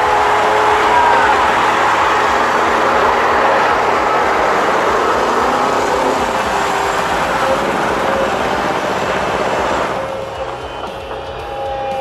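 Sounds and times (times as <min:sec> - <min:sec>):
machine running: 0:00.0 - 0:12.0.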